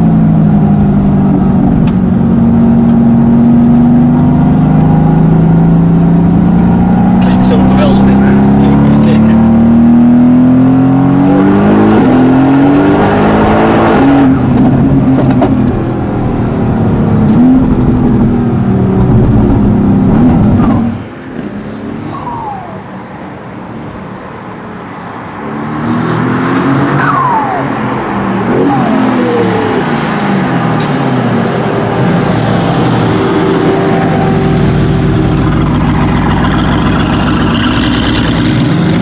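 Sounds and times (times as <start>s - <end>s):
car engine accelerating hard: 0.0s - 21.1s, 25.5s - 39.0s.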